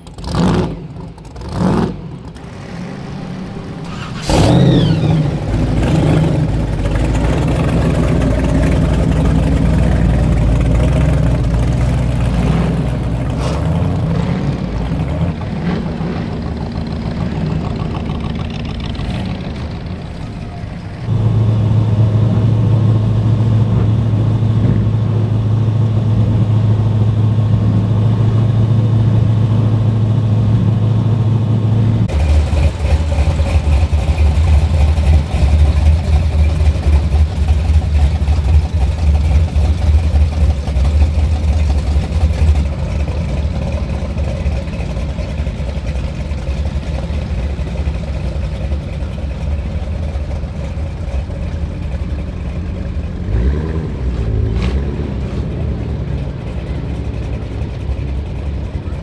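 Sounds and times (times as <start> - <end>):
pickup engine idling: 0.0 - 54.4, 55.0 - 59.0
deep uneven engine rumble: 0.0 - 59.0.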